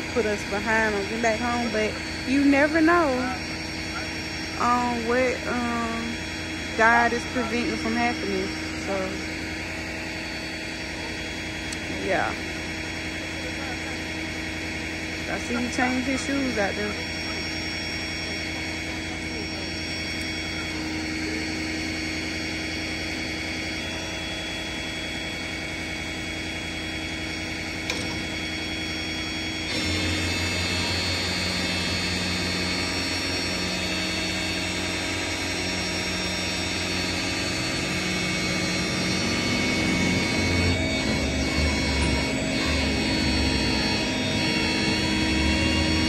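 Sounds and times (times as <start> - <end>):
tow truck engine running: 0.0 - 46.0.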